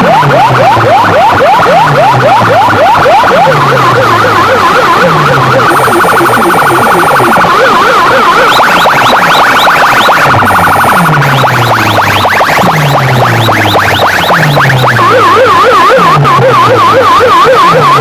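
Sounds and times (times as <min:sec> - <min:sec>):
electronic siren whoops: 0:00.0 - 0:18.0.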